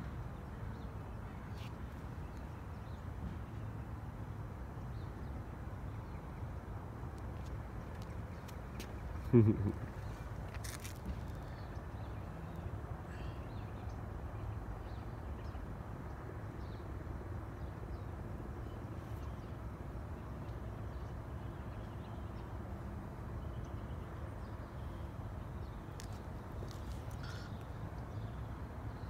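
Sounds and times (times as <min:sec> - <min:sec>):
low street rumble: 0:00.0 - 0:29.0.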